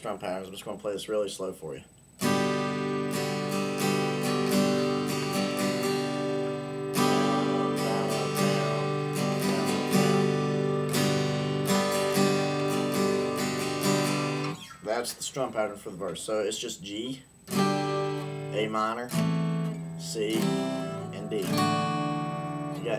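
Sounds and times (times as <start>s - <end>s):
guitar strummed slowly: 2.2s - 15.0s, 16.8s - 22.9s.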